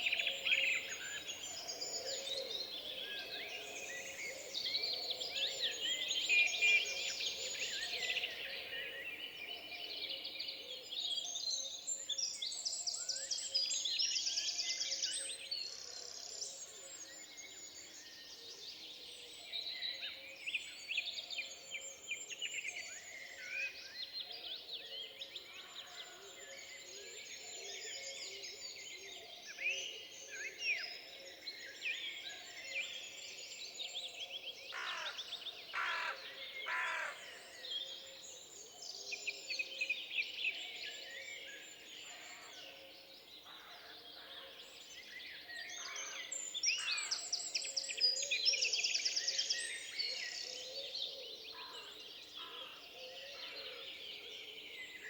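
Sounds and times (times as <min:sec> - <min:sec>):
small birds singing and chirping: 0:00.0 - 0:55.0.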